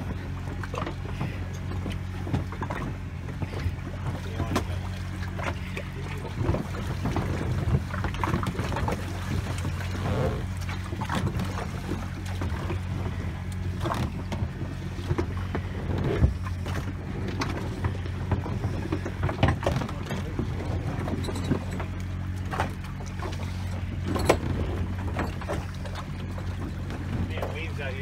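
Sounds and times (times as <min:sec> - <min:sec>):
boat engine idling: 0:00.0 - 0:28.0
water splashes and knocks: 0:00.0 - 0:28.0.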